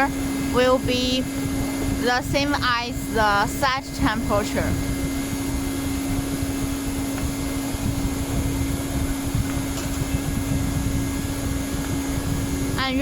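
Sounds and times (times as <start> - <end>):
welding machine blower humming: 0.0 - 13.0.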